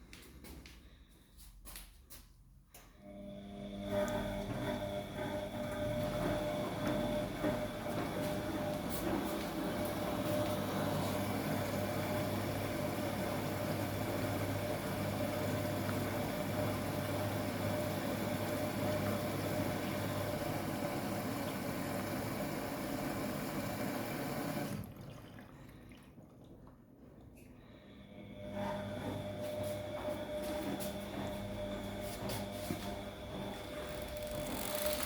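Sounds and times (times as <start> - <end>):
washing machine low hum: 2.8 - 35.0
washing machine water rushing: 3.1 - 27.4, 28.0 - 35.0.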